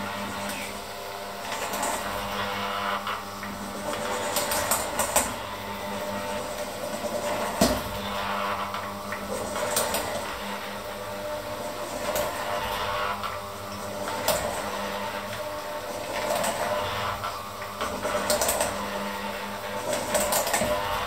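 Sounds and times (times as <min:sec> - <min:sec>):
electric hand mixer running: 0:00.0 - 0:21.0.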